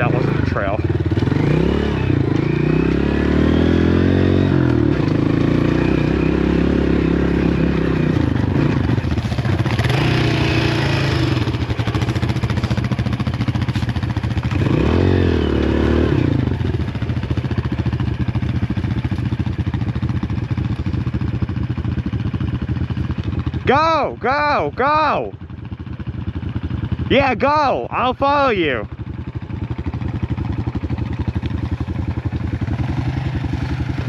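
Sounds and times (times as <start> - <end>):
dirt bike engine revving: 0.0 - 23.9, 28.6 - 34.0.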